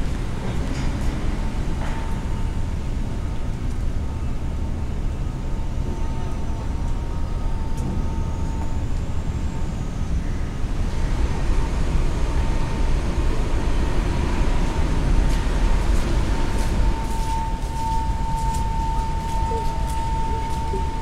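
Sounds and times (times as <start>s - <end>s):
low outdoor rumble: 0.0s - 21.0s
faint high whine: 1.5s - 21.0s.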